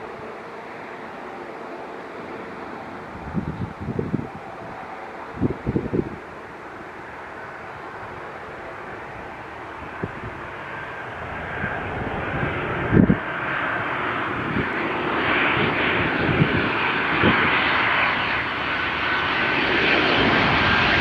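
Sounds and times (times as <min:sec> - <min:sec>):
airliner engines: 0:00.0 - 0:21.0.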